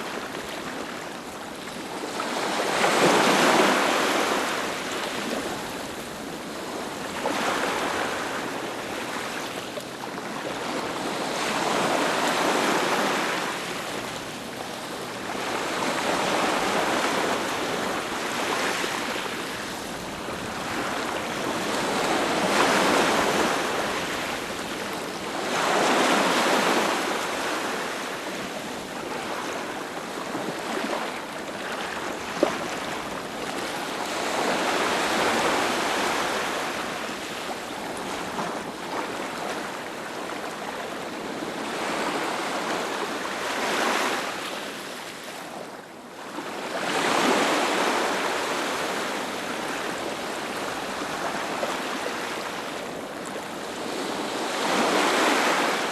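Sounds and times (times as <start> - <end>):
sea waves breaking on a beach: 0.0 - 55.9.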